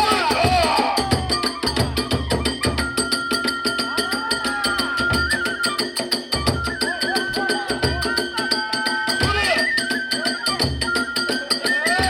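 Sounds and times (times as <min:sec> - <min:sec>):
bamboo flute high note with trills: 0:00.0 - 0:12.0
percussion strikes and drumbeats: 0:00.0 - 0:12.0.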